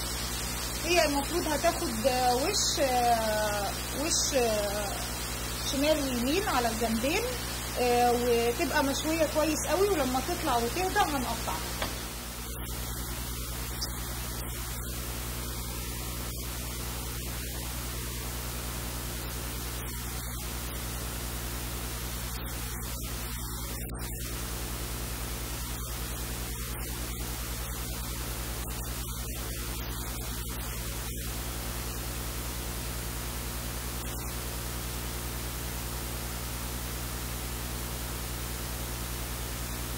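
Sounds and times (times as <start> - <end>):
electrical mains hum: 0.0 - 39.9
static hiss: 0.0 - 39.9.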